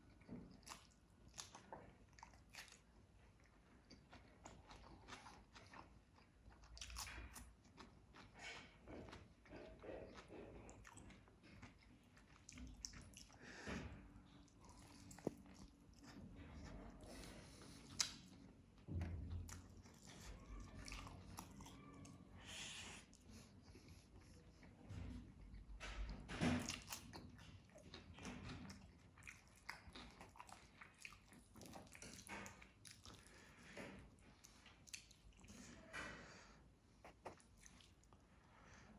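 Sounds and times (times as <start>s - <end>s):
person chewing meat: 0.0s - 25.9s, 26.6s - 35.9s, 36.8s - 38.9s.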